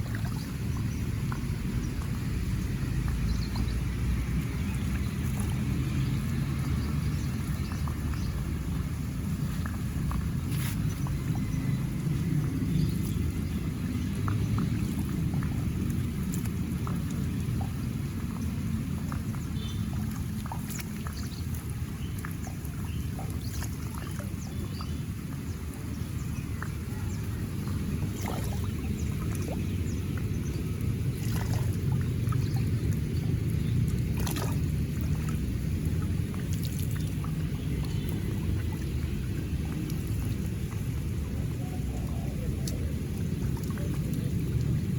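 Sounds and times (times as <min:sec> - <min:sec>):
small water splashes: 0:00.0 - 0:44.9
water rushing along channel: 0:00.0 - 0:44.9.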